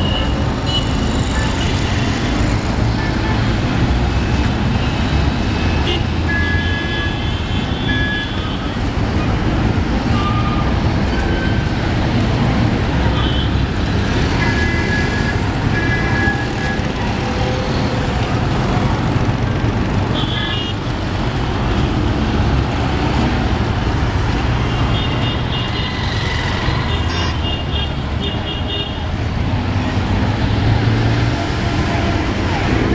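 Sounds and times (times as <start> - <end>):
traffic engines rumbling: 0.0 - 32.9.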